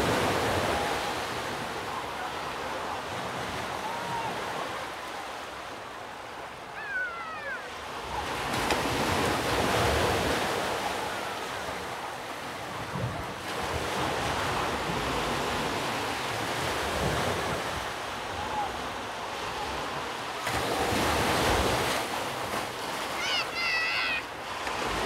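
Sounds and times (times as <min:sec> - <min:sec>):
waves washing on rocky shore: 0:00.0 - 0:25.0.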